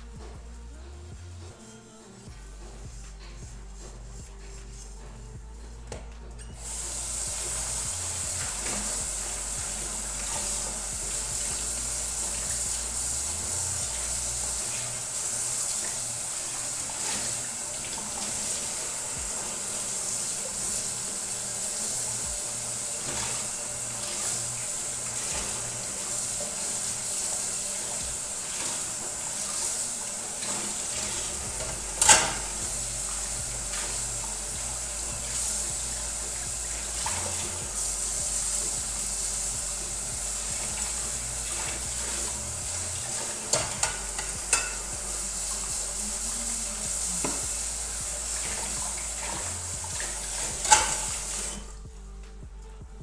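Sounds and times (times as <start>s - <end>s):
water running from a tap: 6.4s - 52.4s.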